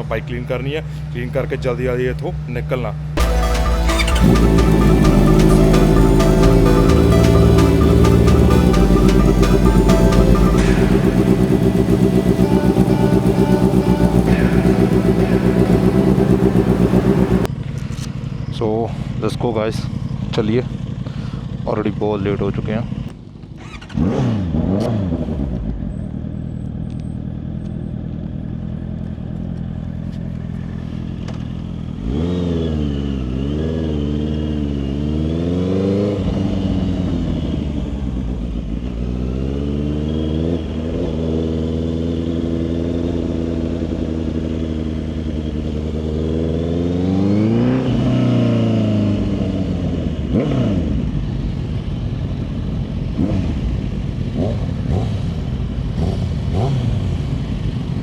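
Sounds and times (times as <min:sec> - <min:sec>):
motorcycle engine revving and accelerating: 0:04.2 - 0:17.5, 0:22.8 - 0:58.0.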